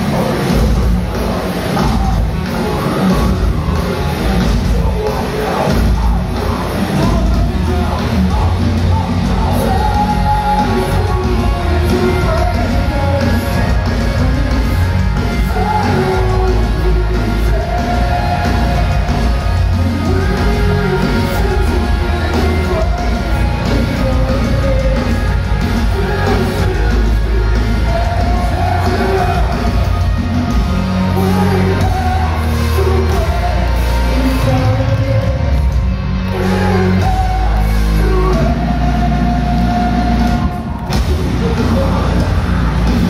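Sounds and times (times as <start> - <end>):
live metal band: 0.0 - 43.0
sung and shouted vocals: 0.0 - 43.0.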